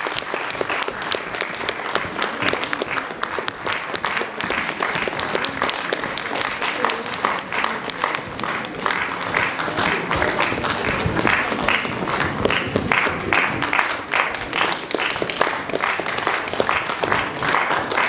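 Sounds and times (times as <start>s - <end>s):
audience applauding in rhythm: 0.0s - 18.0s.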